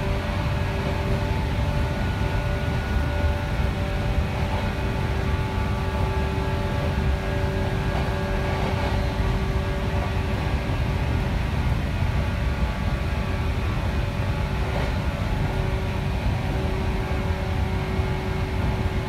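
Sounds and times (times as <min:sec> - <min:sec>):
faint multi-tone hum: 0:00.0 - 0:19.0
train wheels rumbling: 0:00.0 - 0:19.0.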